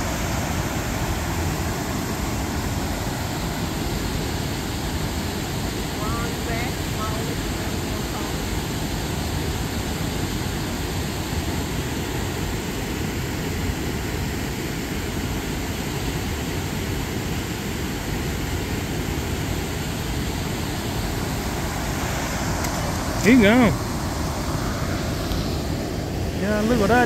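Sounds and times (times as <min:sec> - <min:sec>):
steady rushing outdoor noise: 0:00.0 - 0:27.0.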